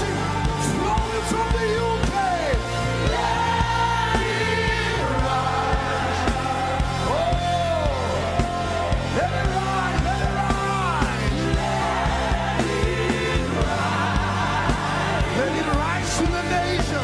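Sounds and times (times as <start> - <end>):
band chords and bass: 0.0 - 17.0.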